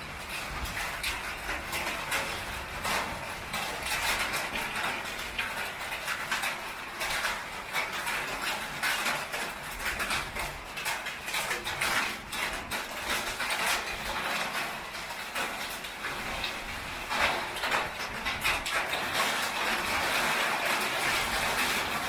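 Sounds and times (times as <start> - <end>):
heavy rain on a tin roof: 0.0 - 22.0.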